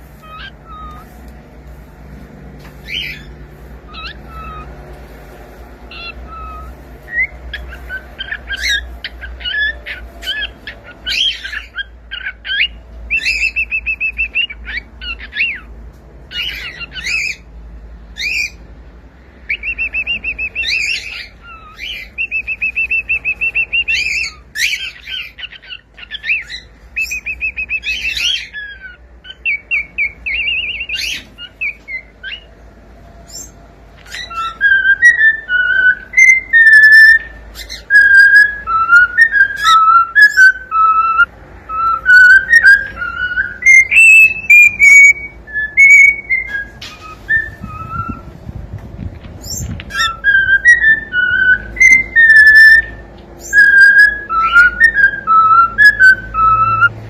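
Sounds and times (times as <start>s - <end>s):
cockatiel chirping and whistling: 0.2s - 1.2s, 2.8s - 3.3s, 3.9s - 4.7s, 5.9s - 15.7s, 16.3s - 17.5s, 18.2s - 18.6s, 19.5s - 32.5s, 33.3s - 48.4s, 49.4s - 56.9s.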